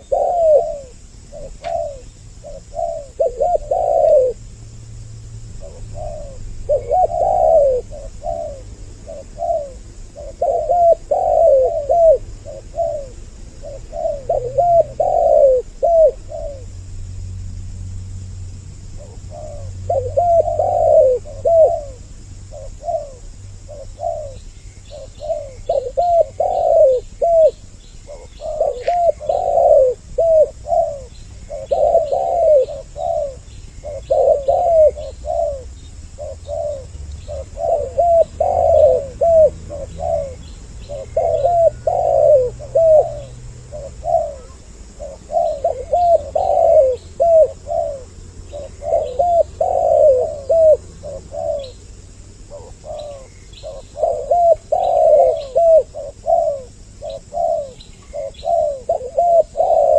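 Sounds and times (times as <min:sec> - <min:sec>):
doves cooing: 0:00.0 - 0:16.9, 0:18.9 - 0:59.9.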